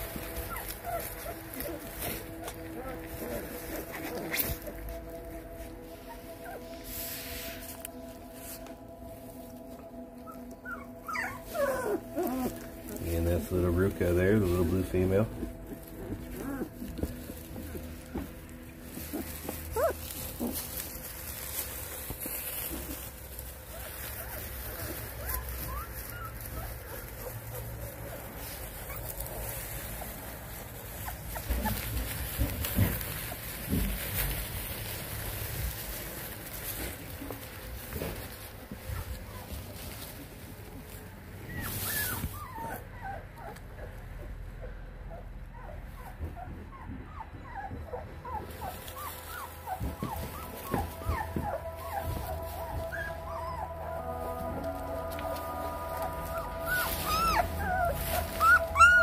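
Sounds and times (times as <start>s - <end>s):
puppies squeaking and whimpering: 0.0s - 8.6s, 9.2s - 59.0s
paper rustling: 0.0s - 42.8s, 48.4s - 59.0s.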